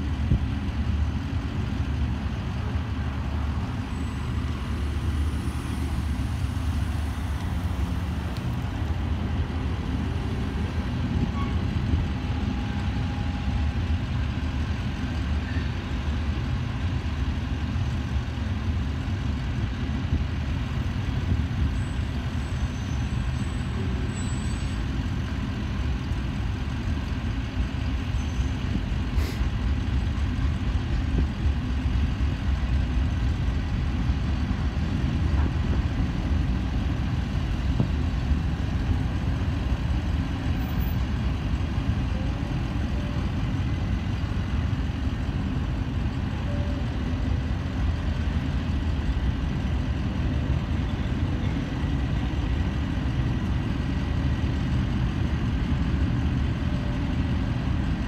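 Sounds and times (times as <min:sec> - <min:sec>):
freight train cars rumbling: 0:00.0 - 0:58.0
road vehicles idling: 0:00.0 - 0:58.0.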